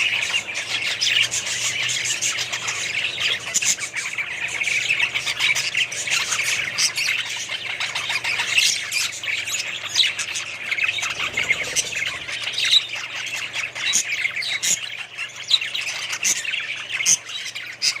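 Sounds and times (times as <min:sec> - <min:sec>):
parrots chattering and squawking: 0:00.0 - 0:18.0.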